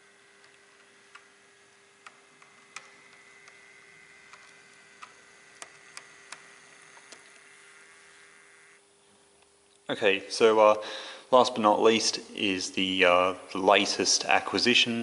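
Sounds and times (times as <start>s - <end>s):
faint thin motor whine: 0.0s - 15.0s.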